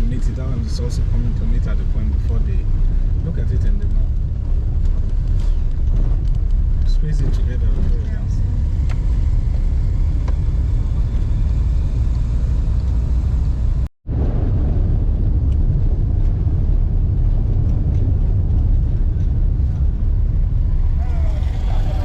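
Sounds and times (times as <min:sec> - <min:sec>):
car rumbling on the move: 0:00.0 - 0:22.0.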